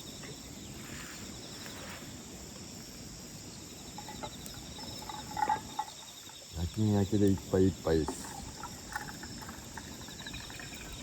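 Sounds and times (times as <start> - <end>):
campfire popping: 0.0 - 11.0
crickets chirping: 0.0 - 11.0.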